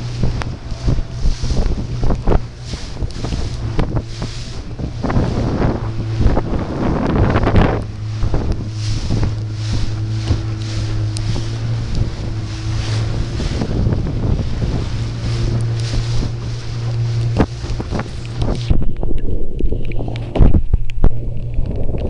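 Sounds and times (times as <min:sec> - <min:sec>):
motorboat engine humming: 0:00.0 - 0:22.0
rushing water: 0:00.0 - 0:22.0
wind buffeting microphone: 0:00.0 - 0:22.0.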